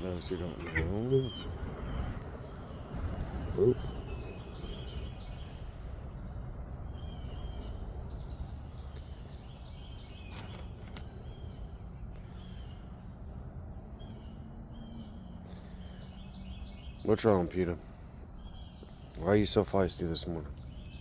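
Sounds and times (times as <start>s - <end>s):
low outdoor background noise: 0.0s - 21.0s
small birds chirping: 0.0s - 21.0s.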